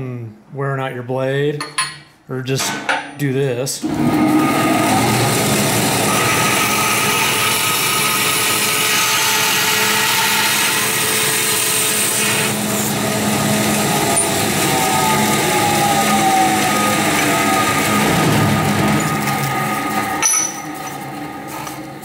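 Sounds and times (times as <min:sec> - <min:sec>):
bandsaw cutting metal: 0:03.8 - 0:22.0
machine humming: 0:03.8 - 0:22.0.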